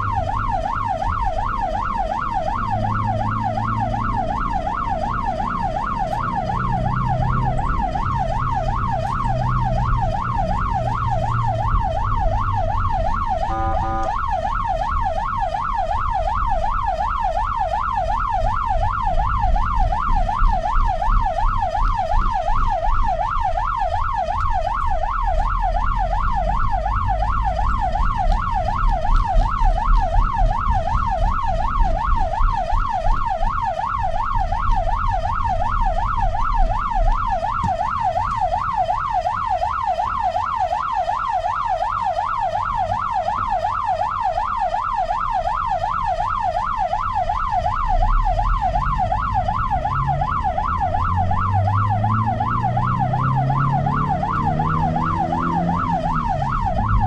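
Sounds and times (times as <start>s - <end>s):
ambulance siren yelping: 0.0s - 57.0s
vehicle rumble: 0.0s - 57.0s.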